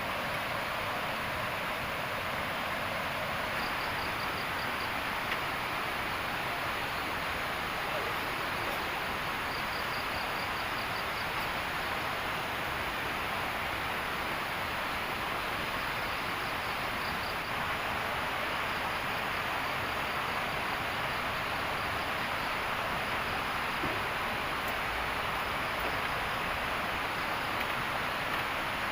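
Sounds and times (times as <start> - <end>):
steady rushing outdoor noise: 0.0 - 28.9
crickets chirping: 0.2 - 28.9.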